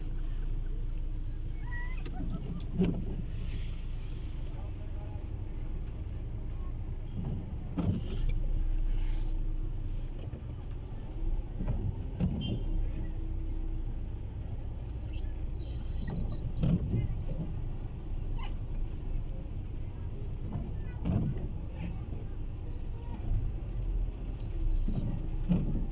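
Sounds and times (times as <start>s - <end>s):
rumble of passing vehicles: 0.0s - 25.9s.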